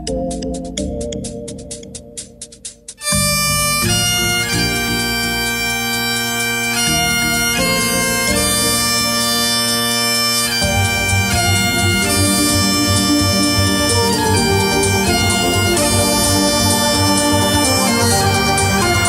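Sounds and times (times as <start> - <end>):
dance music backing track: 0.0 - 19.0
pulsing low beat: 0.0 - 19.0
bagpipes playing melody: 3.0 - 19.0.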